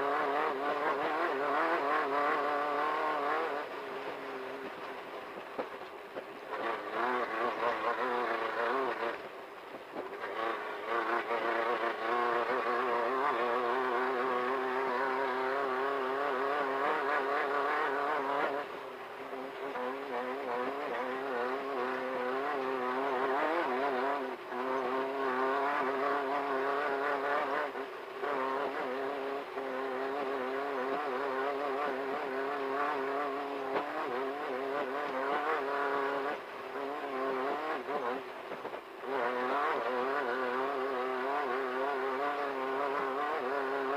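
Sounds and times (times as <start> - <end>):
race car engine at high revs: 0.0 - 43.9.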